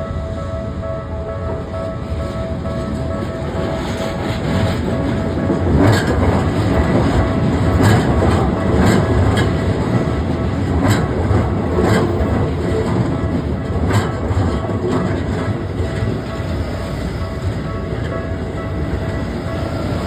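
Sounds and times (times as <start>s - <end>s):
train rumbling past: 0.0s - 20.0s
wheels clacking on rail joints: 2.0s - 20.0s.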